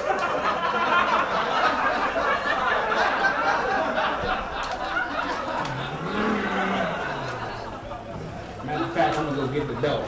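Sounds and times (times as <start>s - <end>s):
people chattering and laughing: 0.0s - 10.0s.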